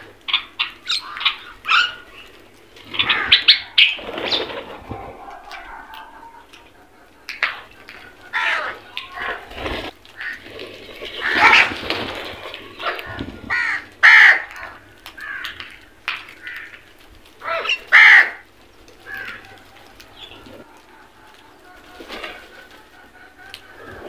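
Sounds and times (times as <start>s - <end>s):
crows cawing: 0.0s - 10.5s, 11.2s - 11.9s, 12.7s - 24.0s.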